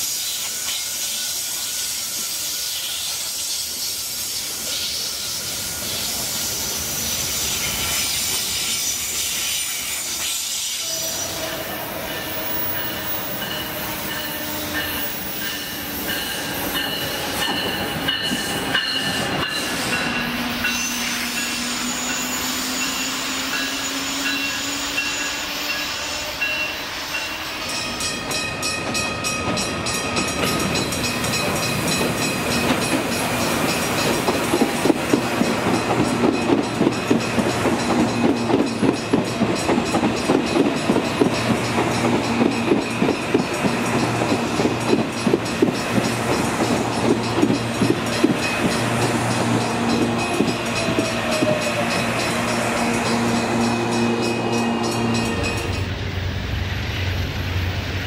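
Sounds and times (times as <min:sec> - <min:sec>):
train wheels clicking over rail joints: 0:00.1 - 0:27.2, 0:28.0 - 0:55.9.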